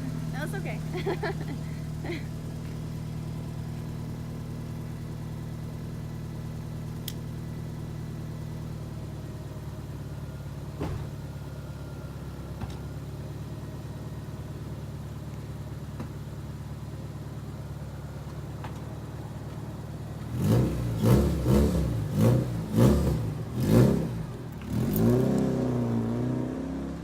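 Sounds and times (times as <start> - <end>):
car engine idling: 0.0 - 25.2.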